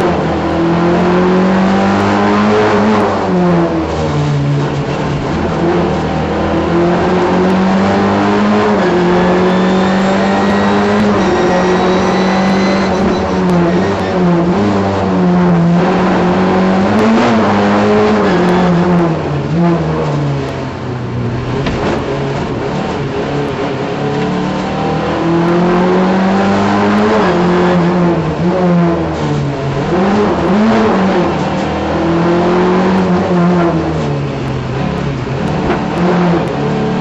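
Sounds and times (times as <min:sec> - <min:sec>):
rally car engine revving: 0:00.0 - 0:37.0.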